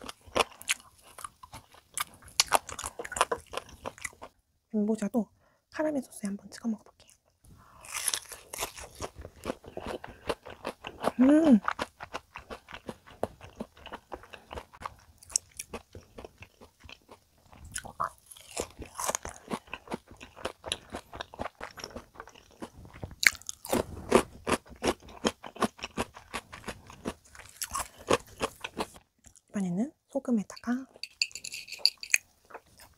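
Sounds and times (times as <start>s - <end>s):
crunchy chewing: 0.0s - 4.4s, 7.0s - 29.5s, 31.4s - 32.9s.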